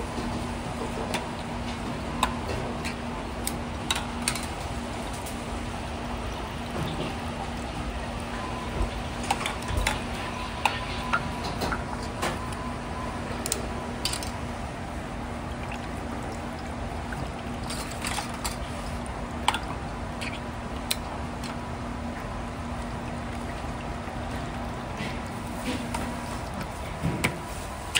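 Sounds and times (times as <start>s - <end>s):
liquid trickling and dripping: 0.0s - 27.9s
steady low hum: 0.0s - 27.9s.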